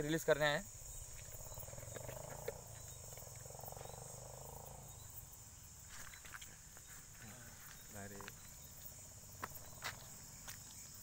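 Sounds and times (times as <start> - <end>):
crickets trilling: 0.0 - 11.0
low buzzing insect trill: 0.0 - 11.0.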